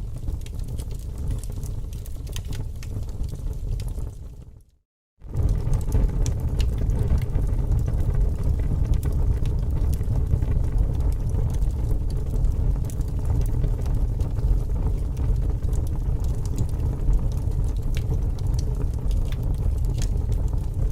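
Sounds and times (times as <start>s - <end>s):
fire crackling: 0.0s - 20.9s.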